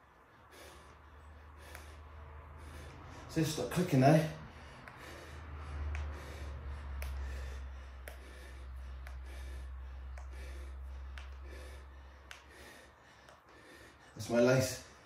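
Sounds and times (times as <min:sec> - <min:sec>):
man breathing hard: 0:00.0 - 0:15.0
steady low hum: 0:00.0 - 0:15.0.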